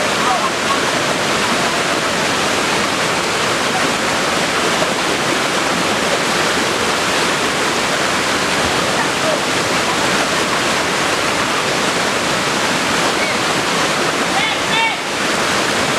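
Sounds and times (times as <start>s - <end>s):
waterfall rushing: 0.0s - 15.9s.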